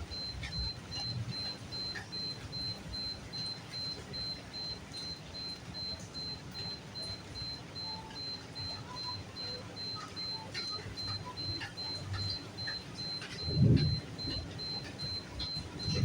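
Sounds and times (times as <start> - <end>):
steady rainfall: 0.0 - 16.0
water drips: 0.0 - 16.0.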